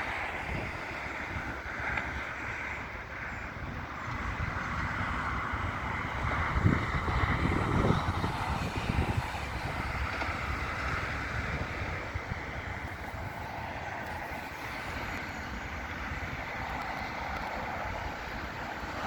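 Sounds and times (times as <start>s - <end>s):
steady rushing noise: 0.0s - 19.0s
wind rumbling on microphone: 0.0s - 19.0s.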